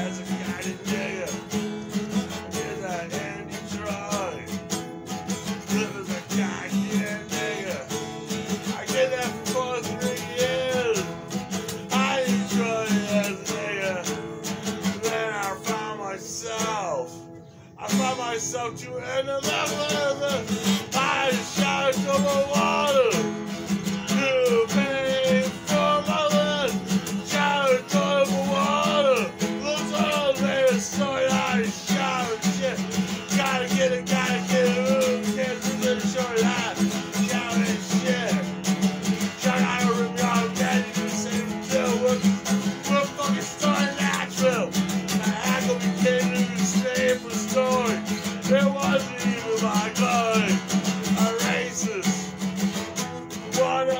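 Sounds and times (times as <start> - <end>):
man singing: 0.0 - 4.8, 5.4 - 52.6, 53.3 - 53.9
acoustic guitar strumming: 0.0 - 53.9.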